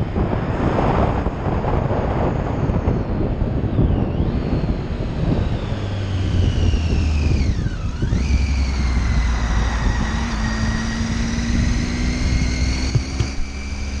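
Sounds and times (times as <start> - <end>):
wind rushing: 0.0 - 13.9
motorcycle engine running: 0.0 - 14.0
road noise: 0.0 - 14.0.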